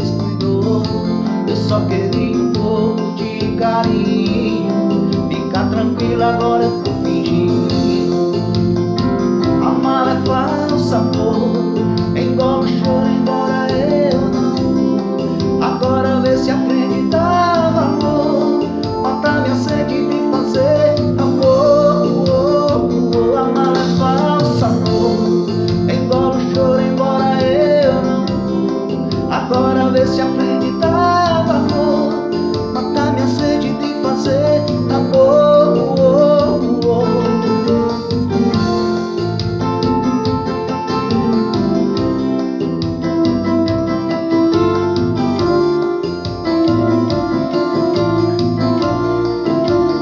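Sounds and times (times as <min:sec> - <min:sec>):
man singing: 0:00.0 - 0:42.6
electronic keyboard chords: 0:00.0 - 0:50.0.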